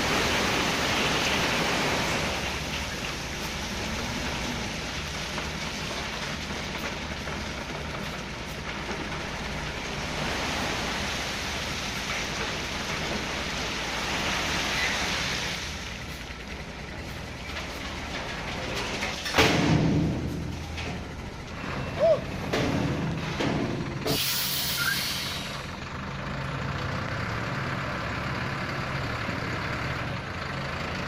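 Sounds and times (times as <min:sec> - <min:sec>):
diesel engine running low: 0:00.0 - 0:31.0.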